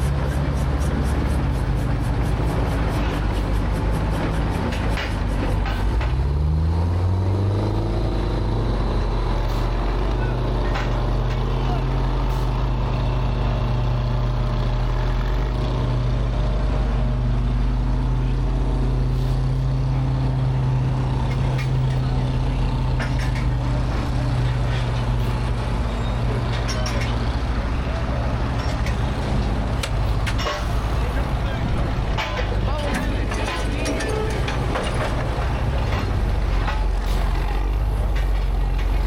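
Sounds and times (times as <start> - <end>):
heavy engine running: 0.0 - 39.0.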